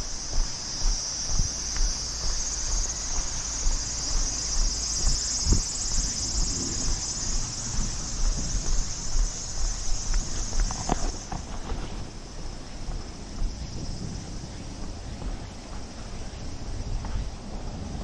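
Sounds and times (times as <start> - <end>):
footsteps on trail: 0.0 - 18.0
high-pitched insect chorus: 0.0 - 18.0.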